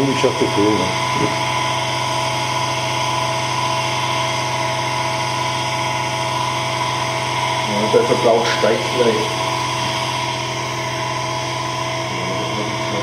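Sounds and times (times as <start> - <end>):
electric motor humming and whining: 0.0 - 13.0.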